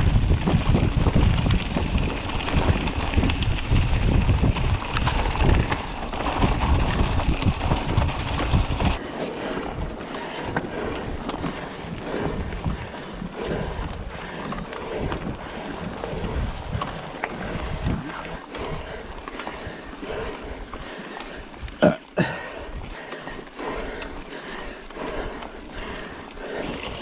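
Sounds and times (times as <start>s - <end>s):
wind buffeting microphone: 0.0s - 24.0s
bike rolling on trail: 0.0s - 27.0s
crackling trail noise: 0.0s - 27.0s.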